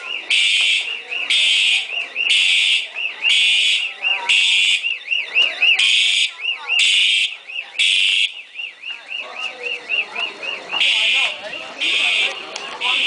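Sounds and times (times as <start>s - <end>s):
buzzing fire alarm horn: 0.0s - 13.0s.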